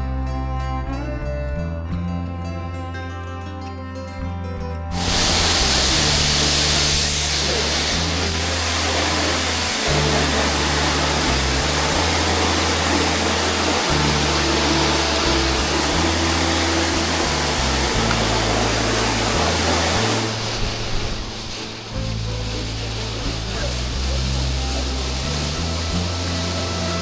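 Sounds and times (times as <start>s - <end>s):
background music bass notes: 0.0s - 27.0s
waterfall roaring: 5.0s - 27.0s.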